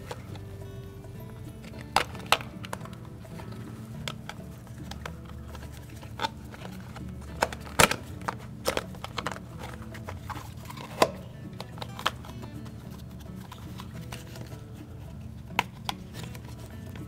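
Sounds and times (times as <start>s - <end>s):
plastic clicks and knocks: 1.6s - 14.6s, 15.4s - 17.0s.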